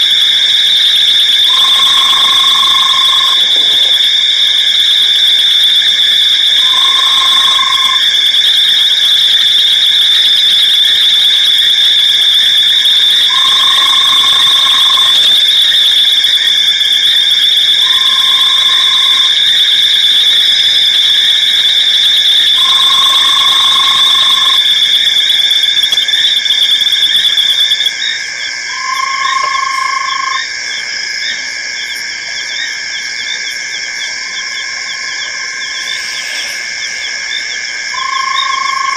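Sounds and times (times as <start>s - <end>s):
high-pitched insect trill: 0.0s - 38.9s
insect and frog chorus: 0.0s - 38.9s.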